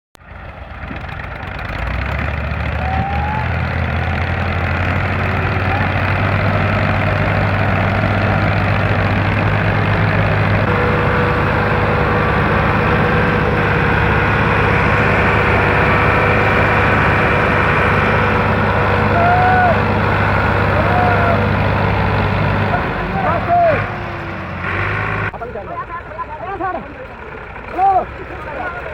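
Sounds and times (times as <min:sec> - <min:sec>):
tractor diesel engine running: 0:00.2 - 0:28.9.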